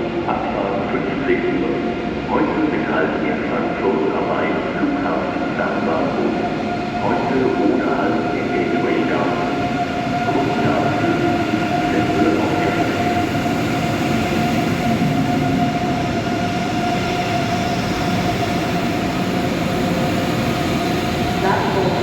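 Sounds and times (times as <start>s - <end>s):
electric train rumbling and whining: 0.0s - 22.0s.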